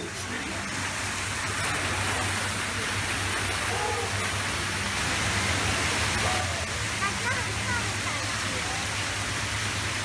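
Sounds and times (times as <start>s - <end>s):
geyser water rushing hiss: 0.0s - 10.0s.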